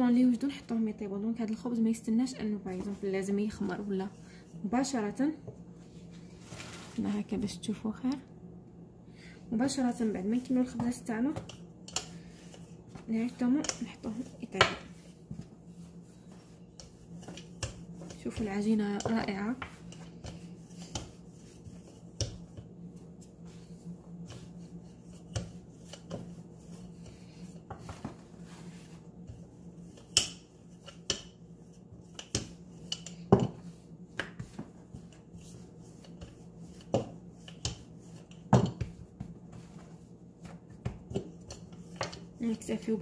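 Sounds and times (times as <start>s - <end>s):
rolling pin rubbing dough: 2.0s - 5.3s, 9.6s - 43.0s.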